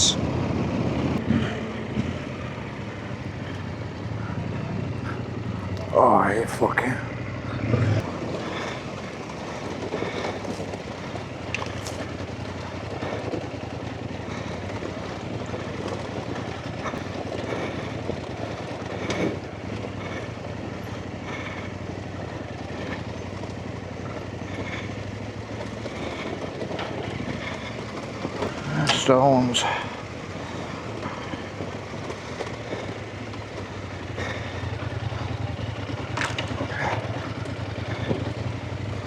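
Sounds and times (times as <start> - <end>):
motorcycle engine at low revs: 0.0 - 39.0.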